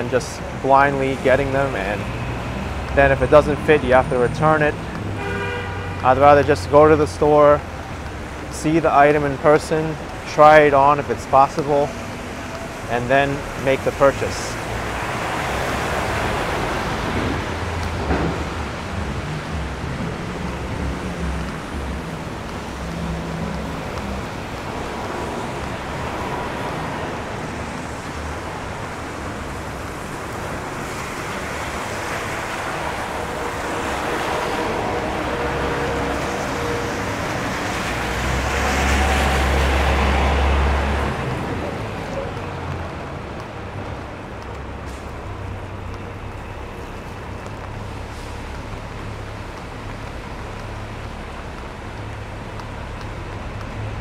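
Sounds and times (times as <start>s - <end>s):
tyres hissing on wet pavement: 0.0s - 54.0s.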